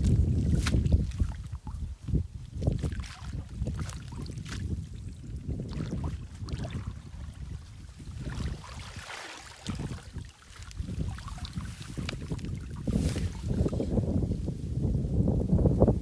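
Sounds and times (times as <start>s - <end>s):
water sloshing and splashing: 0.0s - 13.9s.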